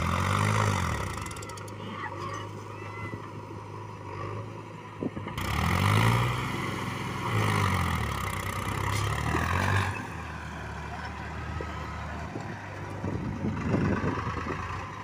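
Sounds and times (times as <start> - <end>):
tractor diesel engine revving: 0.0 - 1.8, 3.3 - 15.0.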